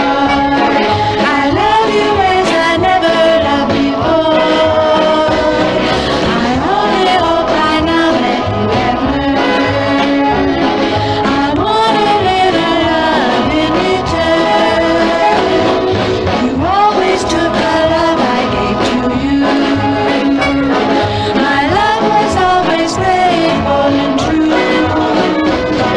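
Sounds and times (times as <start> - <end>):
up-tempo backing band: 0.0 - 25.9
vocal group singing in harmony: 0.0 - 25.9.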